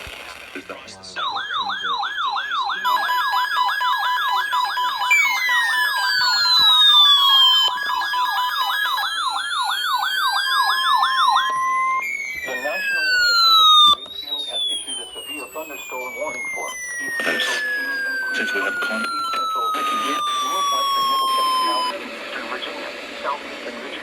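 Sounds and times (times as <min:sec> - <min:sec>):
fast yelp siren: 0:00.9 - 0:22.0
wailing siren: 0:01.0 - 0:24.0.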